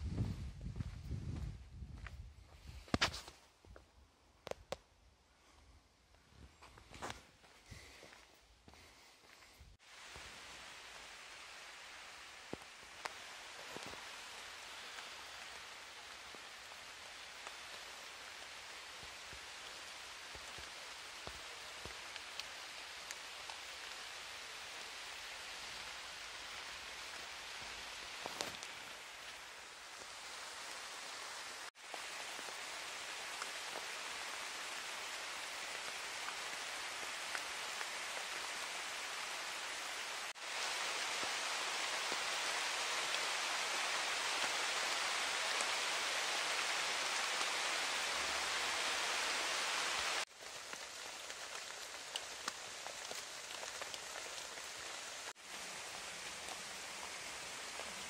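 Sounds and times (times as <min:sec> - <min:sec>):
rain on leaves and grass: 0:06.8 - 0:58.0.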